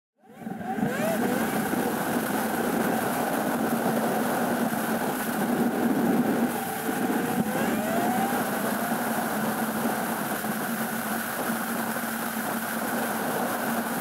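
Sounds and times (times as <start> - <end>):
car engine hum: 0.2 - 14.0
road and wind noise: 0.2 - 14.0.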